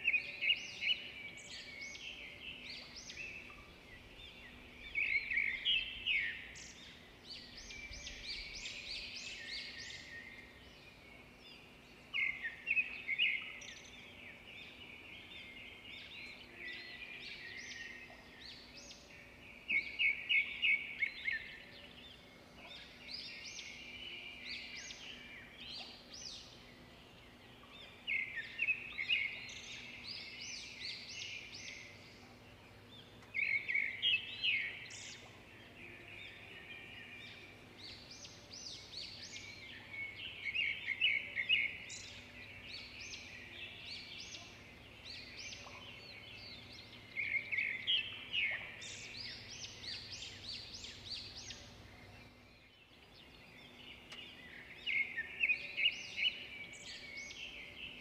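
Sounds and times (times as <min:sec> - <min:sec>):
songbird chirping and twittering: 0:00.0 - 0:58.0.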